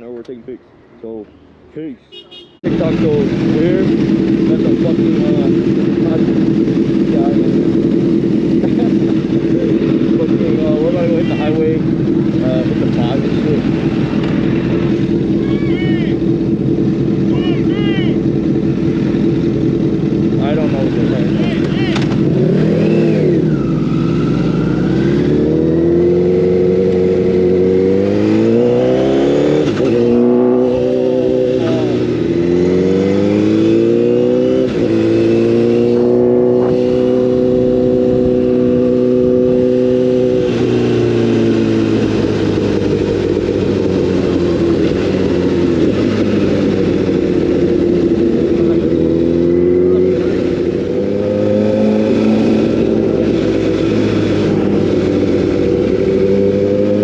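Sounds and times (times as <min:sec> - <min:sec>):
motorcycle engine revving: 0:02.1 - 0:57.0.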